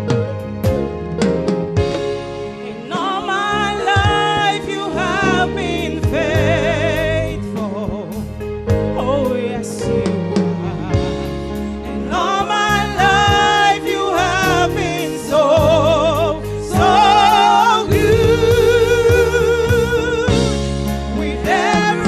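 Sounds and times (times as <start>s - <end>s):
gospel singing over a beat: 1.6s - 22.0s.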